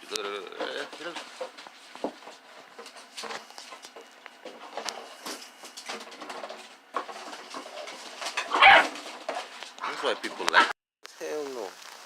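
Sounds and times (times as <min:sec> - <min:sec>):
puppies scuffling and playing: 0:00.2 - 0:10.7.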